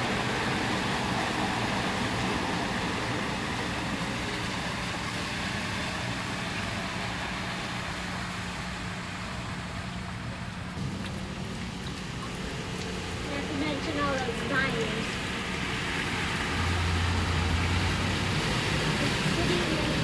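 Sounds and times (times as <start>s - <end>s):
vehicle rushing through water: 0.0s - 20.0s.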